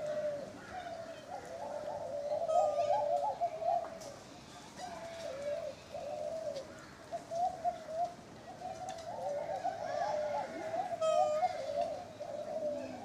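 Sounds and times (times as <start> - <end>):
pigeon cooing: 0.0 - 4.2, 4.8 - 13.0.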